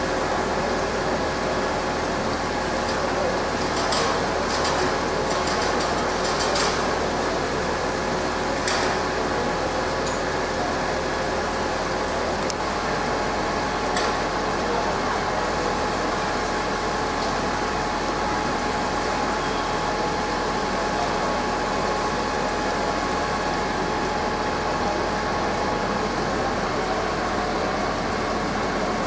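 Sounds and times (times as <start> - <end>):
fire engines idling: 0.0 - 29.0.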